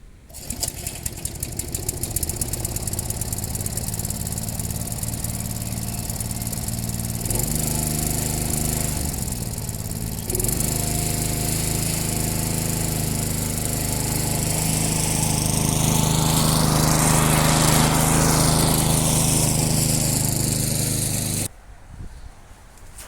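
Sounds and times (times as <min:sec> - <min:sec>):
lawn mower engine running: 0:00.3 - 0:21.5.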